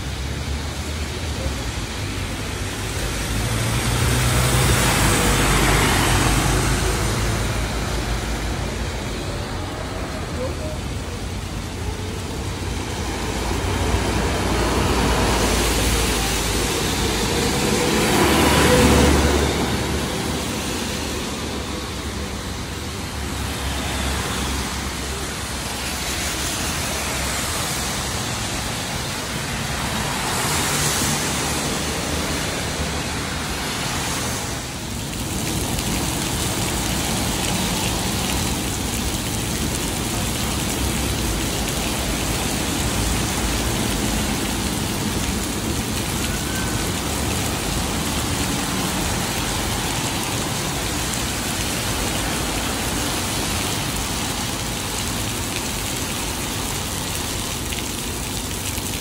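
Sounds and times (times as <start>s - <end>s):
rain: 0.0s - 59.0s
traffic on wet road: 0.0s - 59.0s.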